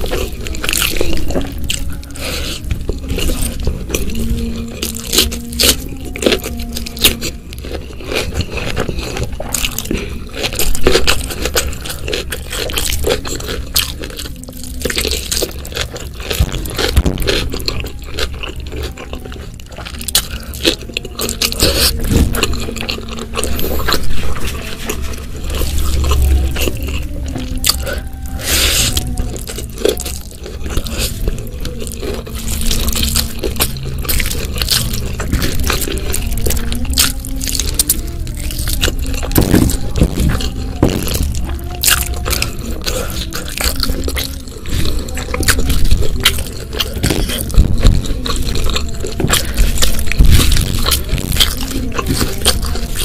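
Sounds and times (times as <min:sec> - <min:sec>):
wet chewing and lip smacking: 0:00.0 - 0:53.0.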